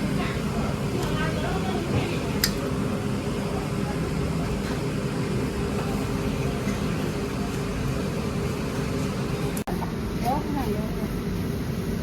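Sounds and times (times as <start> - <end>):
mechanical hum and rumble: 0.0 - 12.0.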